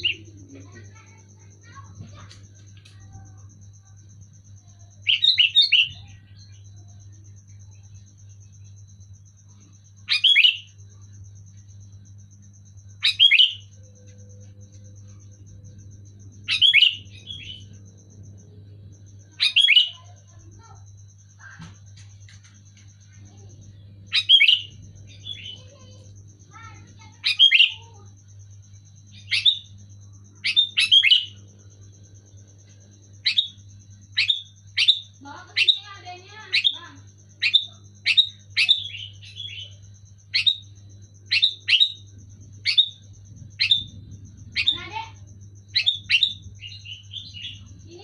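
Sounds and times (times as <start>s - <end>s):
bird chirping: 0.0s - 11.8s, 12.4s - 48.0s
steady low hum: 0.0s - 48.0s.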